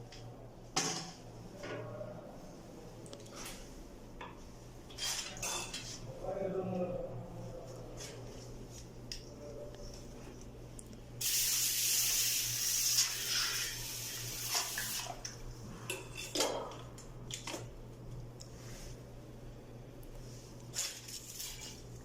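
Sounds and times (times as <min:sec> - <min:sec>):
steady low hum: 0:00.0 - 0:12.7, 0:13.5 - 0:22.0.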